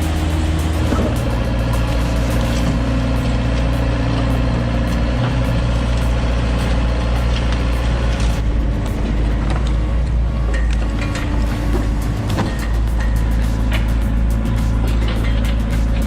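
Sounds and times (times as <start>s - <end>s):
heavy engine running: 0.0s - 16.0s.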